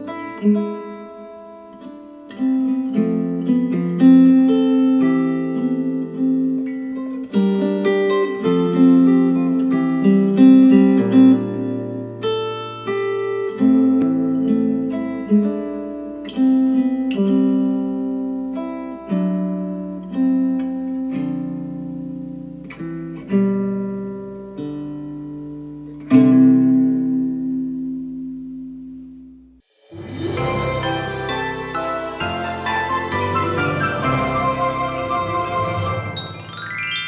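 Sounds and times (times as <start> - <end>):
acoustic guitar through speakers: 0.0 - 36.7.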